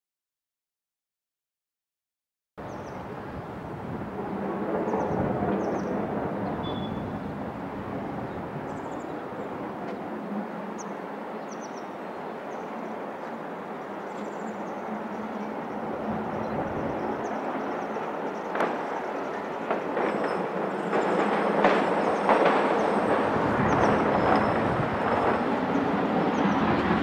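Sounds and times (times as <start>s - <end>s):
distant train rumble: 2.6s - 27.0s.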